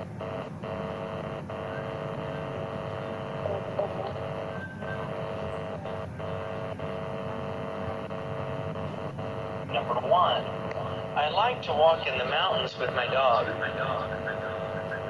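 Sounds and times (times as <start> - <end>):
hum and hiss on call audio: 0.0 - 15.0.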